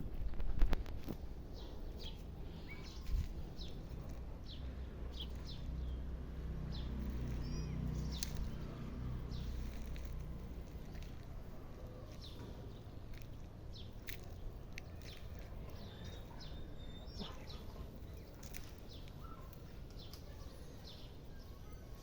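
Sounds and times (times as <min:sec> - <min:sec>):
low outdoor rumble: 0:00.0 - 0:22.0
small birds chirping: 0:00.1 - 0:22.0.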